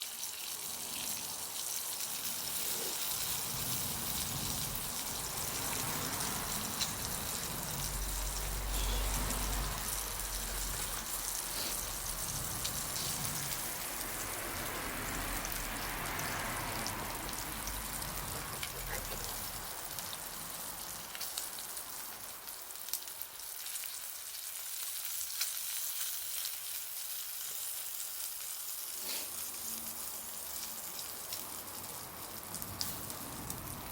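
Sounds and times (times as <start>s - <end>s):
bonfire crackling and popping: 0.0s - 33.9s.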